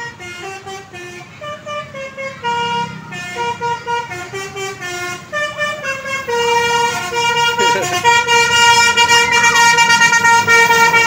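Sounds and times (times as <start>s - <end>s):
musical air horn playing a tune: 0.0s - 11.0s
road traffic rumble: 0.0s - 11.0s.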